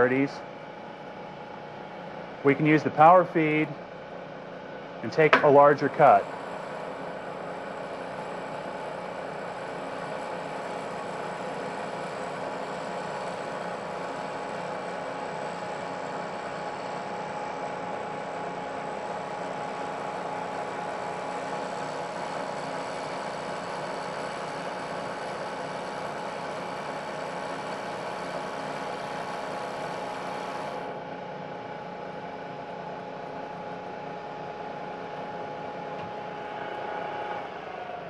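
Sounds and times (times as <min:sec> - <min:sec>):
milling machine whine: 0:00.0 - 0:38.0.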